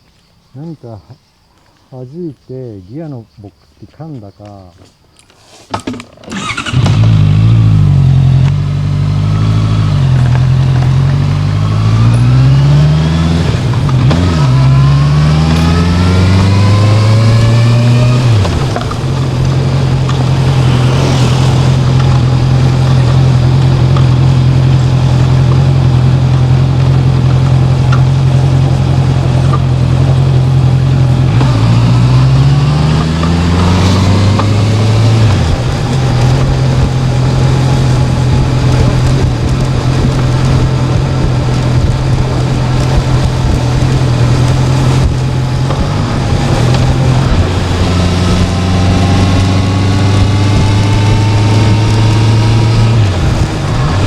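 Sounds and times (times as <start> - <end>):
motorcycle engine accelerating: 6.2 - 54.0.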